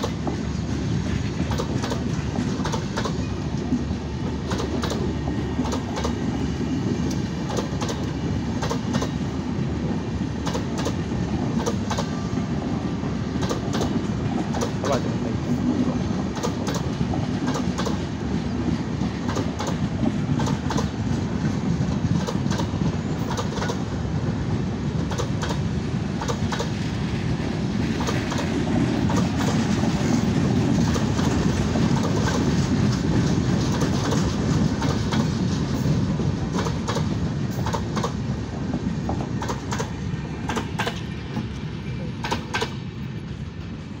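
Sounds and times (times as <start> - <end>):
train wheels rumbling on rails: 0.0 - 44.0
wheels clicking over rail joints: 0.0 - 44.0.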